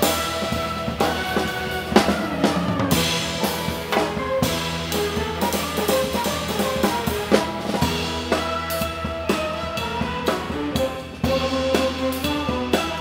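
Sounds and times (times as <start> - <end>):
live ensemble playing: 0.0 - 13.0.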